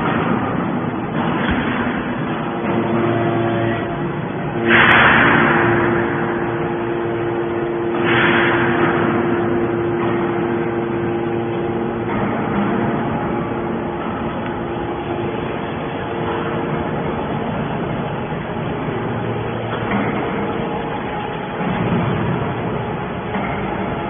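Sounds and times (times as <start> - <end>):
loud surges of machine noise: 0.0 - 24.0
scrap shear humming: 0.0 - 24.0.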